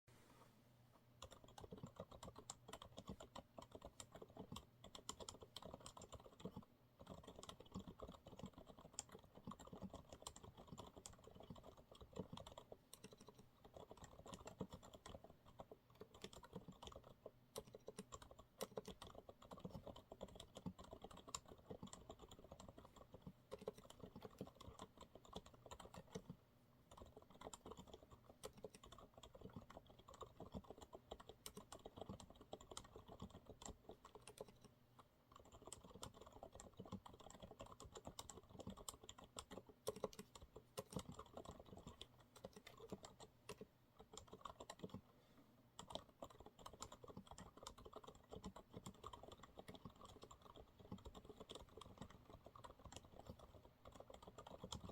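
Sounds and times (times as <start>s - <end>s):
quiet keyboard typing: 1.1s - 54.9s.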